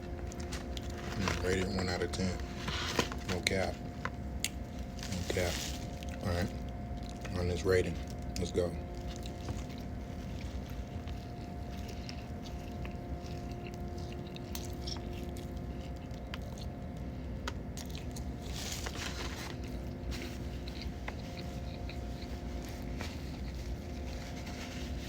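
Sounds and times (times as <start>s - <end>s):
chewing and crunching: 0.0s - 25.0s
faint steady hum: 0.0s - 25.0s.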